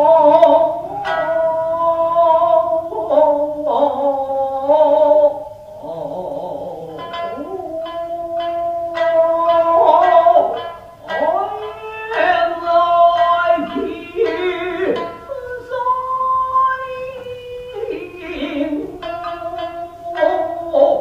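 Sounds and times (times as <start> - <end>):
person singing wavering notes: 0.0 - 21.0
shamisen plucks: 0.0 - 21.0.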